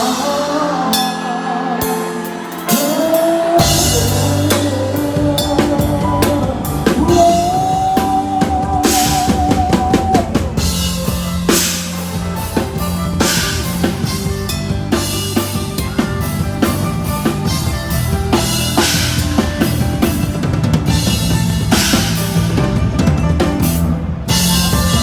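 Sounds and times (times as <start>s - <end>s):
wavering lead melody: 0.0s - 25.0s
drum kit beat: 1.8s - 25.0s
bass line: 3.3s - 25.0s.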